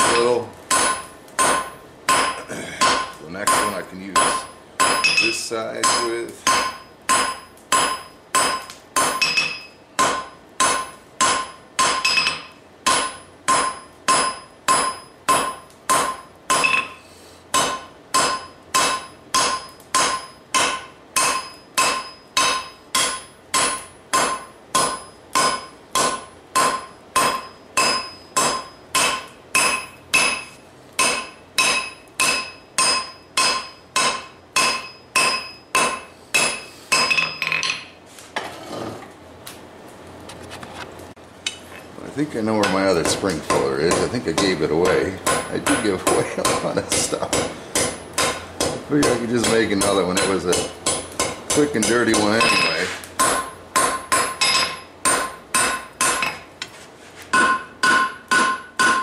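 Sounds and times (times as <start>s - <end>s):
hammer striking metal on anvil: 0.0s - 37.9s, 42.6s - 56.5s, 57.3s - 59.0s.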